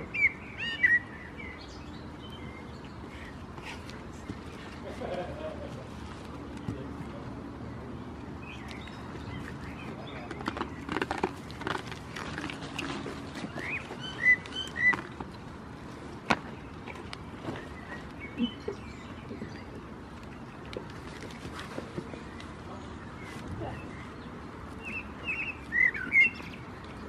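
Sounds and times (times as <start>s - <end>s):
goats moving and nibbling: 1.7s - 27.0s.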